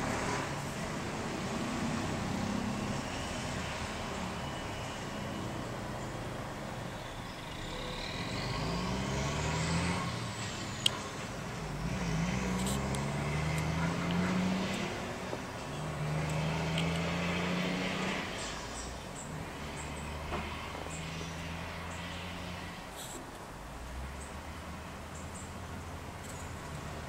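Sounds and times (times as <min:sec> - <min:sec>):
vehicles driving past: 0:00.0 - 0:27.0.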